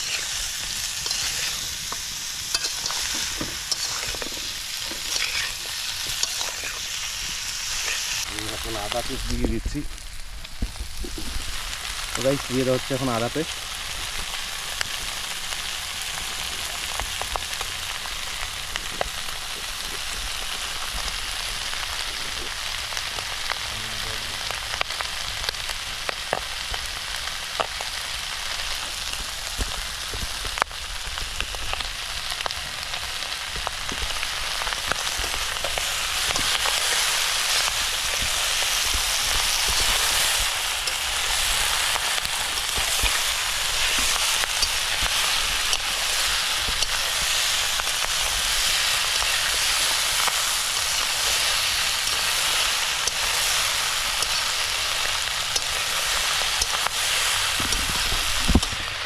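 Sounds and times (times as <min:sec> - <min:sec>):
meat sizzling in oil: 0:00.0 - 0:59.0
oil popping and crackling: 0:00.0 - 0:59.0.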